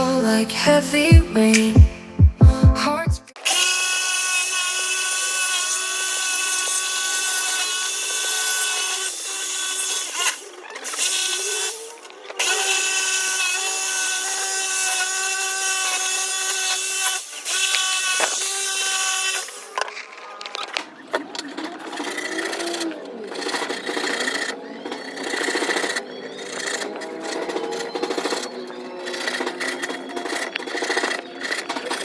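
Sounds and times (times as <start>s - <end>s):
electric drill whining: 3.4s - 32.0s.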